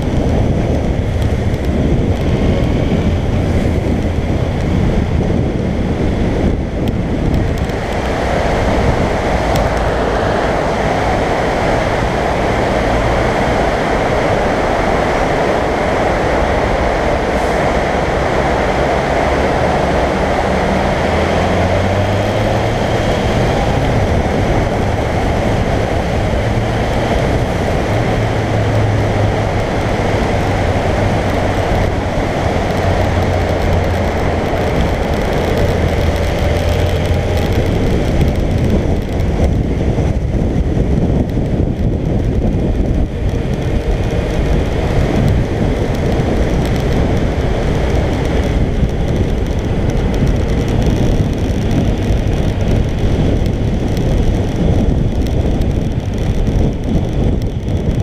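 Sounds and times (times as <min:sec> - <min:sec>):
motorcycle engine drone: 0:00.0 - 0:58.0
tyre noise on wet road: 0:00.0 - 0:58.0
wind noise: 0:00.0 - 0:58.0.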